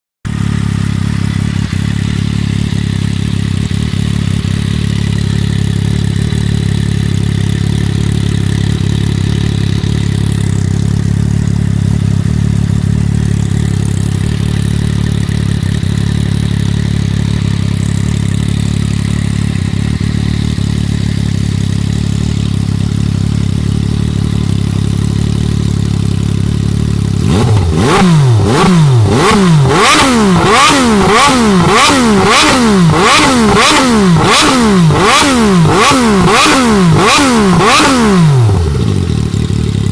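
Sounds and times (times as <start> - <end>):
motorcycle engine idling and revving: 0.2 - 39.9.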